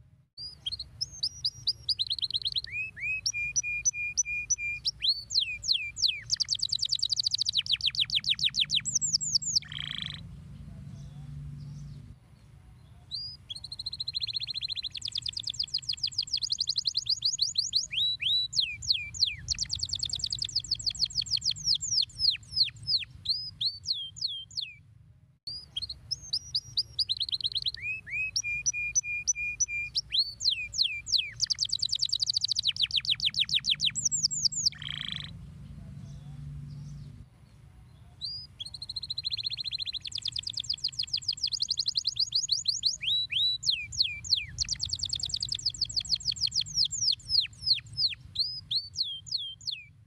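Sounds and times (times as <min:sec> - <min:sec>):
canary singing: 0:00.4 - 0:12.1, 0:12.8 - 0:24.8, 0:25.5 - 0:37.2, 0:38.0 - 0:50.0.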